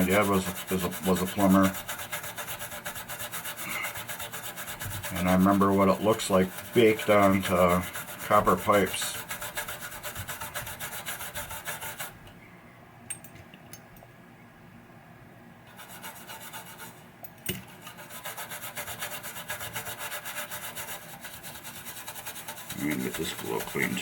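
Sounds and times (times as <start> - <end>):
toothbrush scrubbing circuit board: 0.0 - 12.2, 15.7 - 17.0, 17.7 - 24.0.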